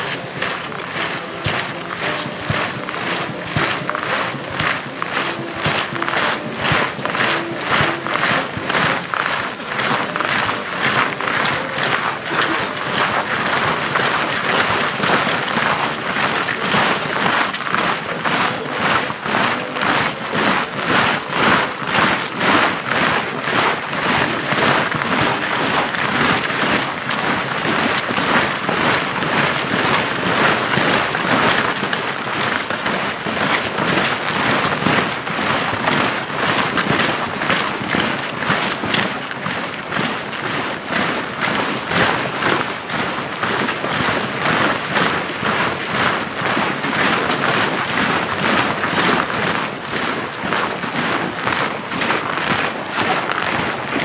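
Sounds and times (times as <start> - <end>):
marching boots crunching on snow: 0.0 - 54.0.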